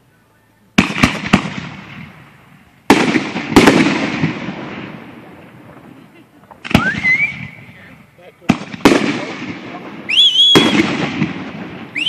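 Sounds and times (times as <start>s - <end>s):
fireworks rumble: 0.0s - 12.0s
fireworks bangs: 0.8s - 12.0s.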